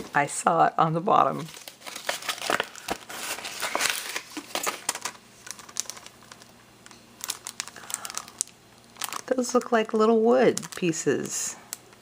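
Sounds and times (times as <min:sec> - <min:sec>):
packaging crinkling: 0:01.4 - 0:12.0.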